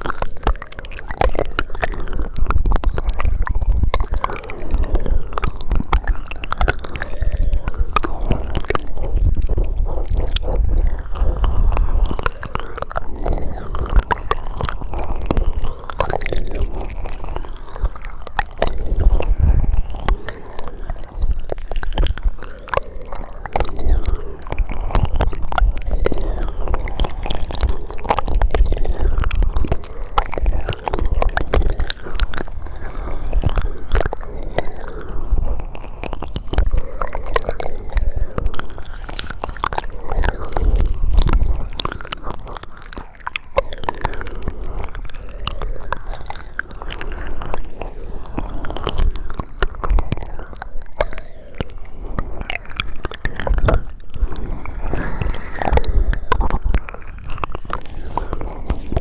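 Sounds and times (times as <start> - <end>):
mouth clicks and smacks: 0.0 - 59.0.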